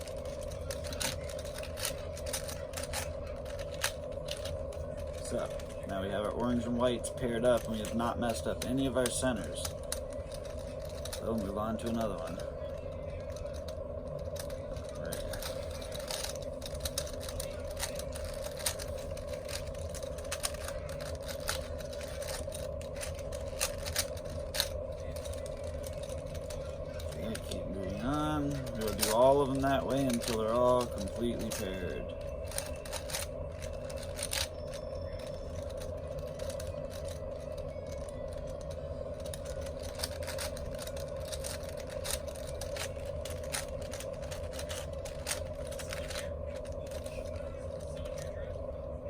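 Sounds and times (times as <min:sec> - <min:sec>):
puzzle cube clicking and scraping: 0:00.0 - 0:48.4
steady background hum: 0:00.0 - 0:49.0.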